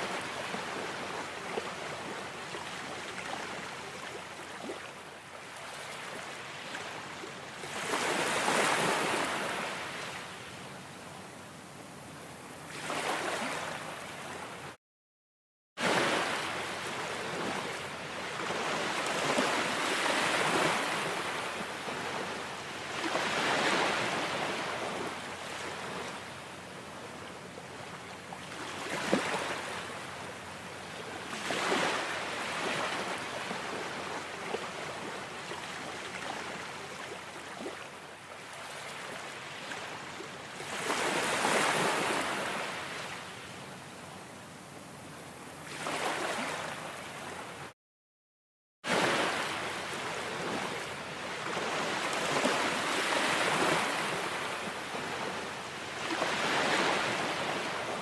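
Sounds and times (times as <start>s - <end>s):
ocean waves breaking on shore: 0.0s - 10.6s, 12.0s - 14.8s, 15.8s - 43.6s, 45.0s - 47.7s, 48.9s - 58.0s.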